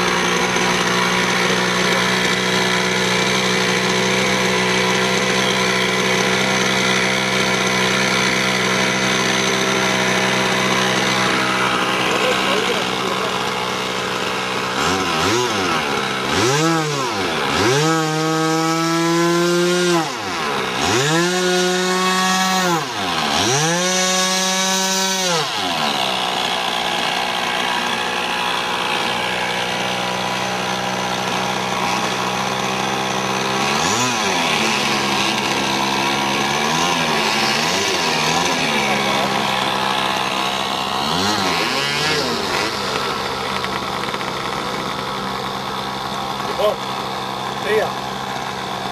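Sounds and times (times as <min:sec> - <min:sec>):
model airplane engine revving: 0:00.0 - 0:48.9.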